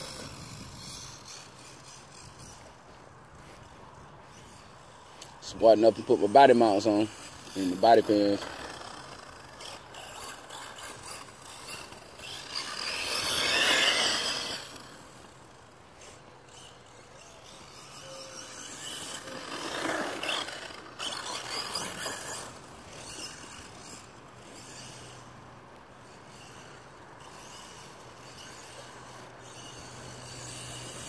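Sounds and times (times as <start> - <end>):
rc truck motor and tyres: 0.0 - 31.0.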